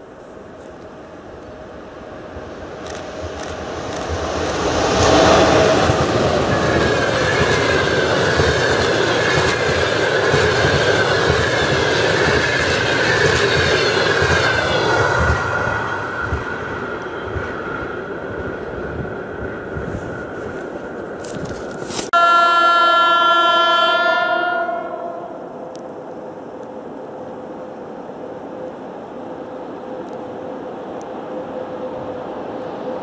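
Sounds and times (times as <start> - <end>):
train passing at speed: 0.0 - 33.0.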